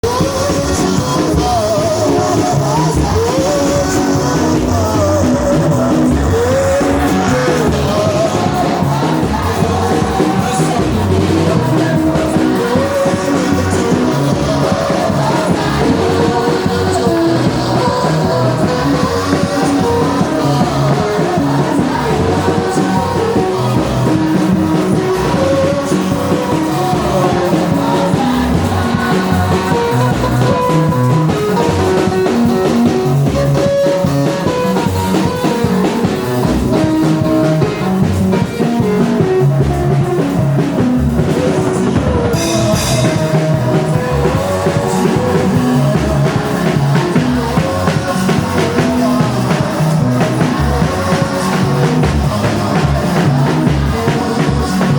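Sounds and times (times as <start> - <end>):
drum kit: 0.0 - 54.9
gospel singing: 0.0 - 54.9
guitar: 0.0 - 54.9.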